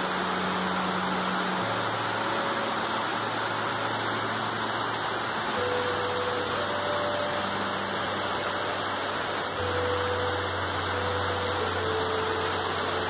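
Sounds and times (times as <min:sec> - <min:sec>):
rain on leaves: 0:00.0 - 0:13.0.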